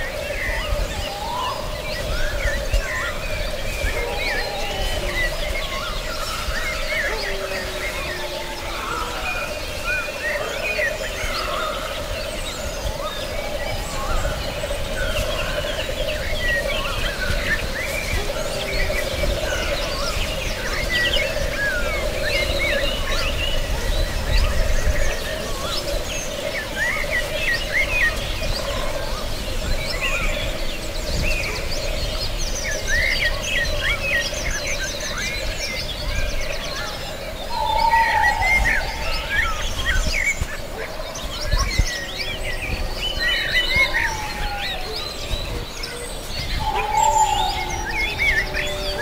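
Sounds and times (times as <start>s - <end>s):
songbirds chirping and trilling: 0.0s - 49.0s.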